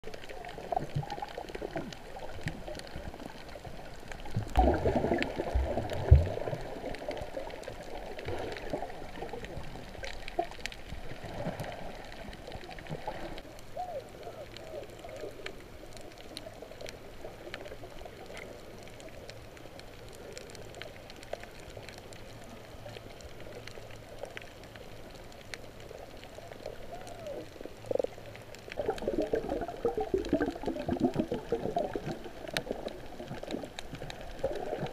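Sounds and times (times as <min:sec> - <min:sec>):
faint clicks: 0:00.0 - 0:34.9
underwater gurgling and bubbling: 0:00.0 - 0:34.9.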